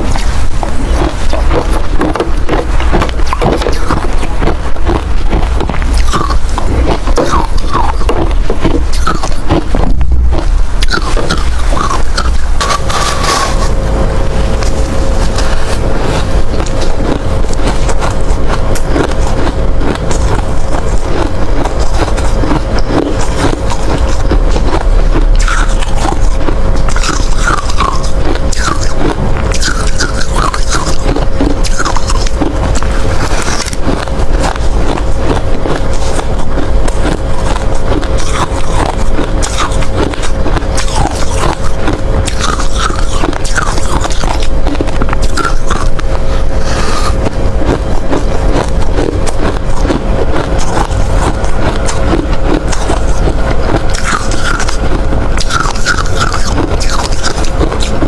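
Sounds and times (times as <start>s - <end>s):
teeth crunching ice: 0.0s - 58.0s.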